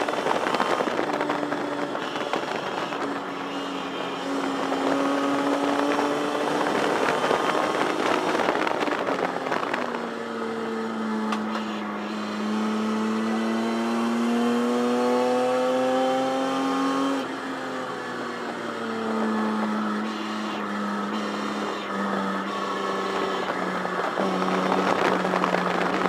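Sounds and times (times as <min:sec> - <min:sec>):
racing car engine from cabin: 0:00.0 - 0:26.0.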